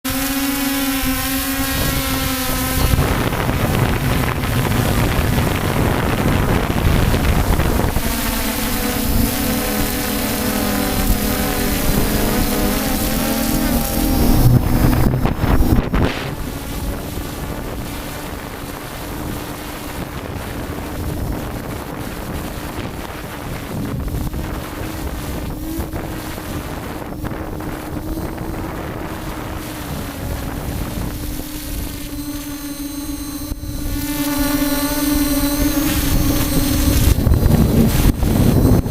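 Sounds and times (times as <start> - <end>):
drone propellers humming: 0.1 - 38.9
wind rushing over microphone: 0.2 - 38.9.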